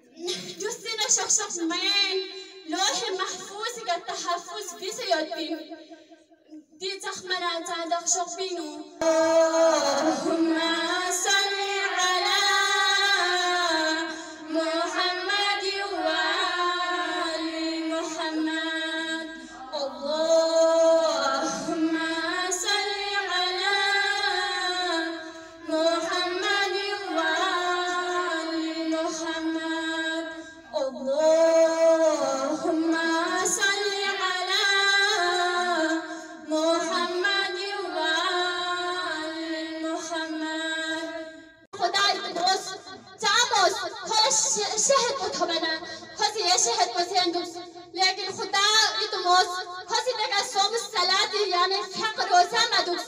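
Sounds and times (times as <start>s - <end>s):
woman chanting: 0.0s - 5.7s, 6.5s - 53.0s.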